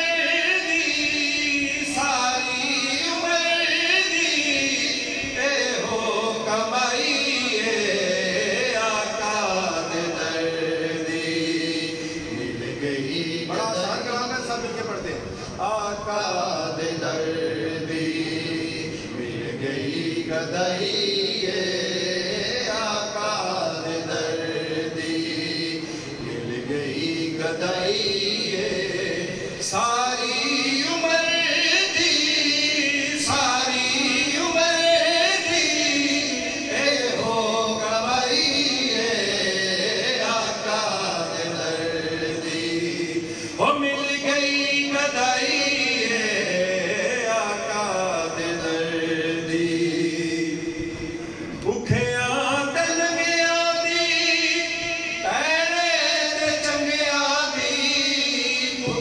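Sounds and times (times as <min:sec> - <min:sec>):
man singing into a microphone: 0:00.0 - 0:59.0.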